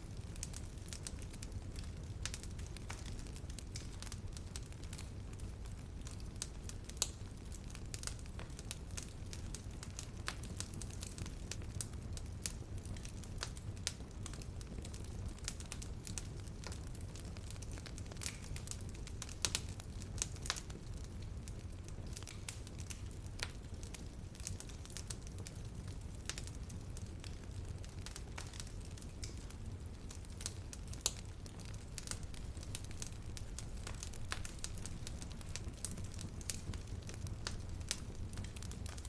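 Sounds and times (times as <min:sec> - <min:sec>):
fire pops and snaps: 0:00.0 - 0:39.0
low rumble of flames: 0:00.0 - 0:39.0.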